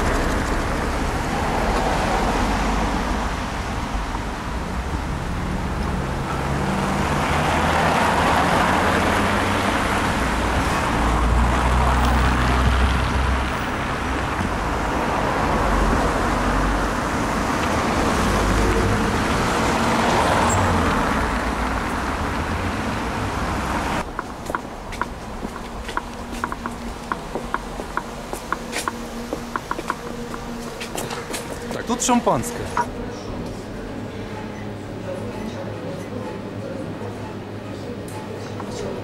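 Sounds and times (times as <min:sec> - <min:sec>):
rumble of passing cars: 0:00.0 - 0:39.0.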